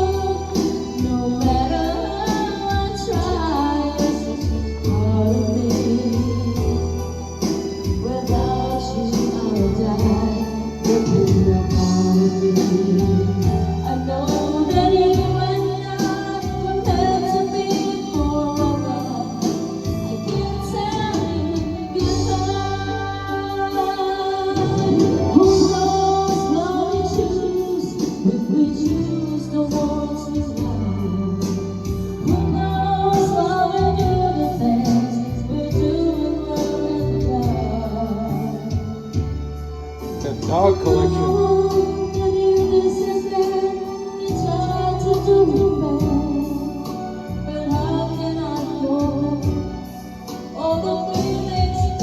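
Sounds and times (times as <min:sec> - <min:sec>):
band with bass and drums: 0:00.0 - 0:52.0
song with singing and beat: 0:00.0 - 0:52.0.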